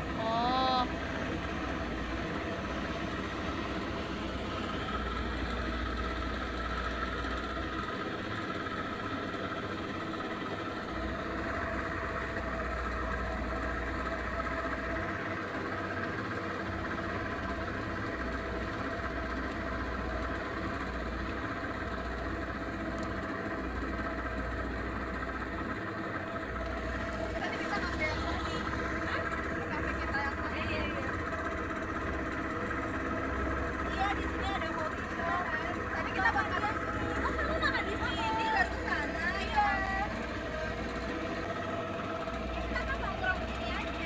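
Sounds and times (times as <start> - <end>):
speedboat engine running: 0.0 - 44.0.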